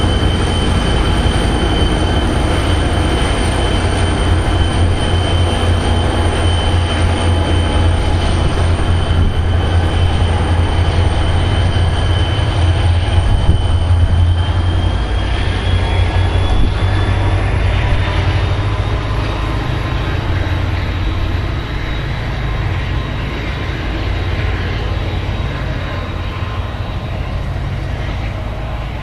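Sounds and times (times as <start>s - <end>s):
faint high whine: 0.0s - 29.0s
train rumbling on rails: 0.0s - 29.0s.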